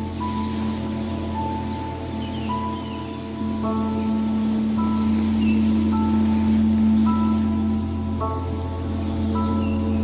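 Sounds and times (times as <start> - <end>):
long ringing tones: 0.0 - 10.0
low drone: 0.0 - 10.0.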